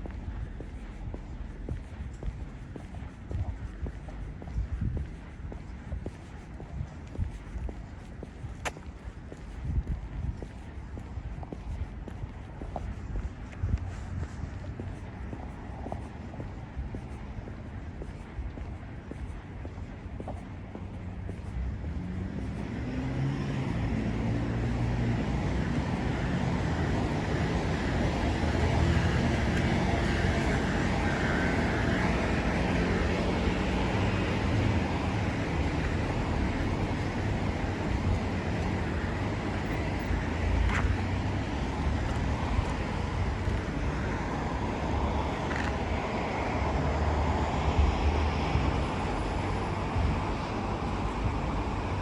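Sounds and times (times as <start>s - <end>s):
engine hum: 0.0s - 52.0s.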